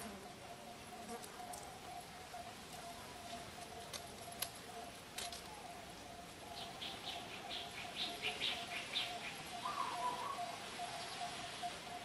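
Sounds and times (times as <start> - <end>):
bird chirping: 0.3 - 12.0.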